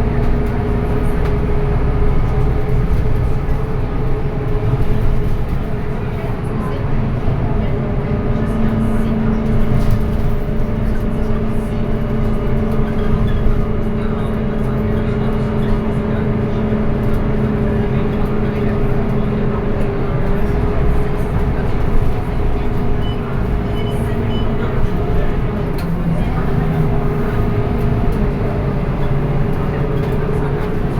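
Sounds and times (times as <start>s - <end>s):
bus engine drone with whine: 0.0s - 30.9s.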